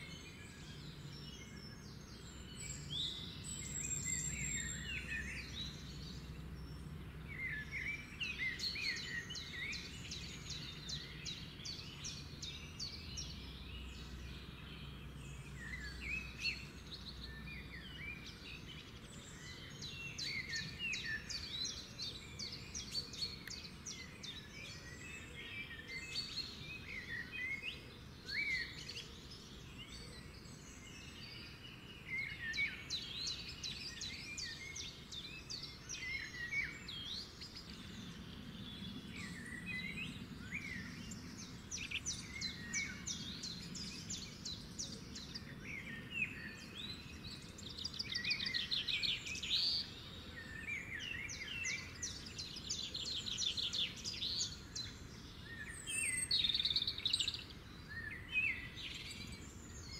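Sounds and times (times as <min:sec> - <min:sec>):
faint low background noise: 0:00.0 - 0:59.9
small birds chirping and trilling: 0:00.0 - 0:59.9.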